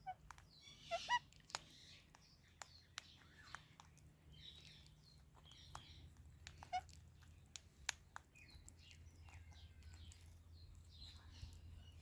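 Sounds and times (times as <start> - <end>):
low steady hum: 0.0 - 12.0
parrots chirping softly: 0.0 - 12.0.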